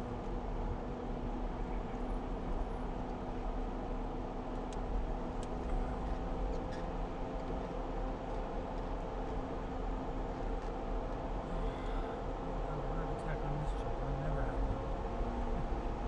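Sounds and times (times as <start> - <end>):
engine idling at low revs: 0.0 - 16.0.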